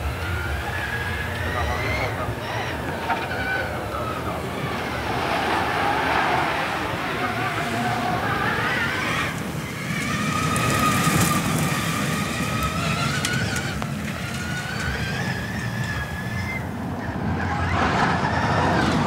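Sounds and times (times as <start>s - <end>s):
electric motor whining: 0.0s - 16.7s
tyres rumbling on track: 0.0s - 19.0s.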